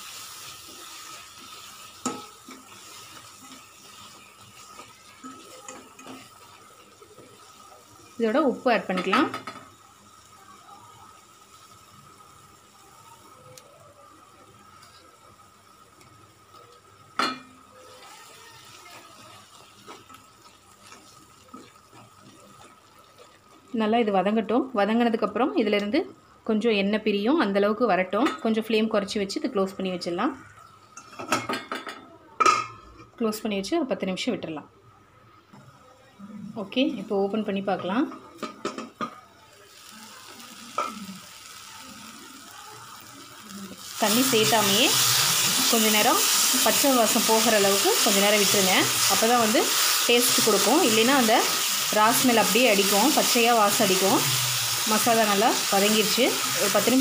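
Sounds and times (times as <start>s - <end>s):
spices sizzling in oil: 0.0s - 26.4s, 35.7s - 57.0s.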